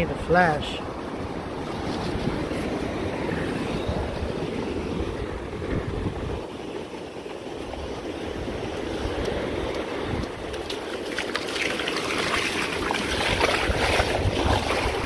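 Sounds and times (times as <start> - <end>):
surf washing over shallows: 0.0 - 15.0
wind on microphone: 0.9 - 10.8, 12.2 - 15.0.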